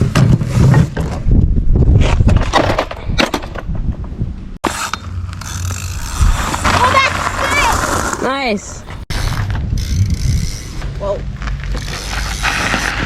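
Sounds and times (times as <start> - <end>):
bikes clattering and rattling: 0.0 - 13.0.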